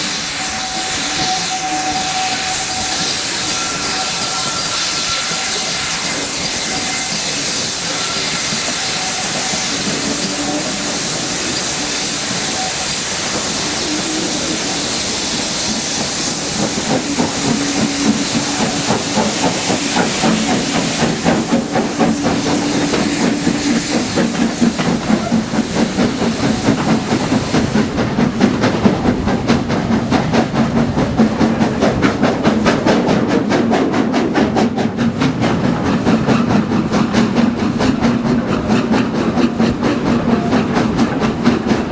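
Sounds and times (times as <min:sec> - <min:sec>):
locomotive chuffing exhaust: 0:00.0 - 0:41.9
steam hissing: 0:00.0 - 0:41.9.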